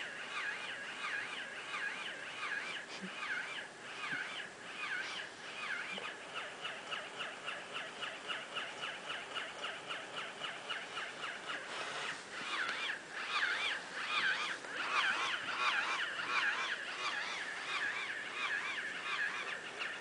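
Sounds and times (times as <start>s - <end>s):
toy pig squealing: 0.1s - 20.0s.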